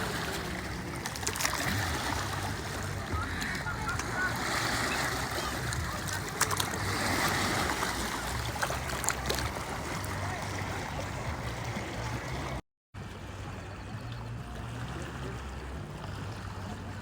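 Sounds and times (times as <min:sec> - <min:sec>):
lake water washing: 0:00.0 - 0:17.0
wind: 0:00.0 - 0:17.0.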